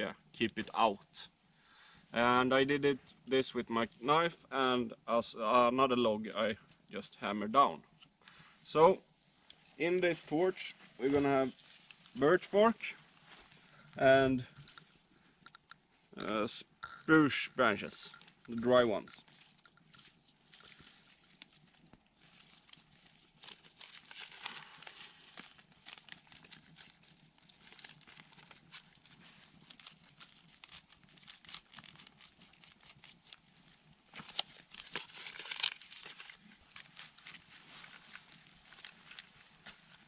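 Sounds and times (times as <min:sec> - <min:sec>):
twigs and bark crackling: 0:07.6 - 0:40.0.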